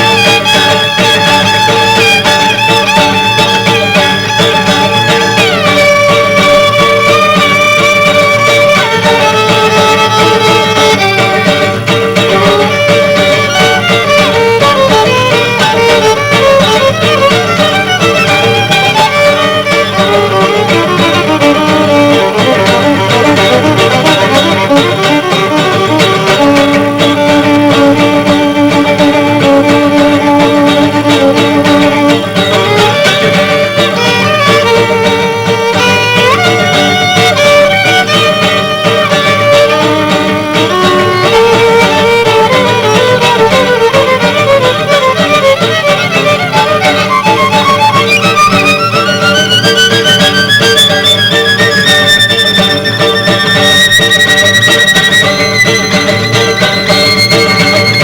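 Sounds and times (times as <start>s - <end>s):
guitar accompaniment: 0.0s - 58.0s
violin melody: 0.0s - 58.0s.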